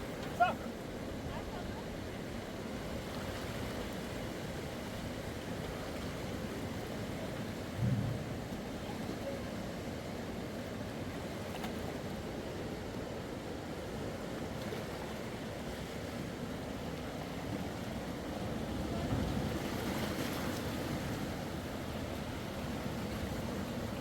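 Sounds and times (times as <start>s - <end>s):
flowing water: 0.0s - 24.0s.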